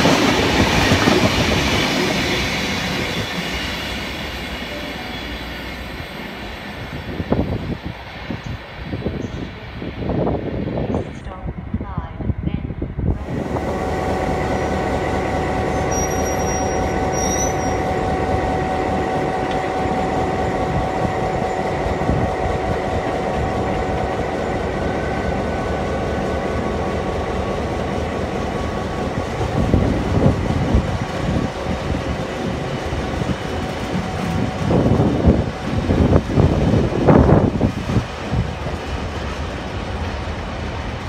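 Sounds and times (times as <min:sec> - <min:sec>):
diesel locomotive engine hum: 0:00.0 - 0:41.0
train wagons rumbling and clattering: 0:00.0 - 0:41.0.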